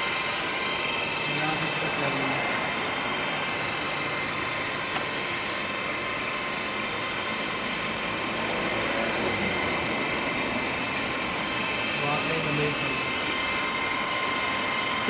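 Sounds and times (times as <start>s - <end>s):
milling machine whirring: 0.0s - 15.0s.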